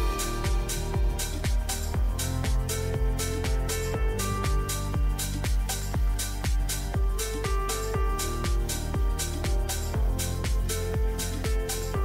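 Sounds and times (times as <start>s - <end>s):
hi-hats: 0.0s - 12.0s
kick drum beat: 0.0s - 12.0s.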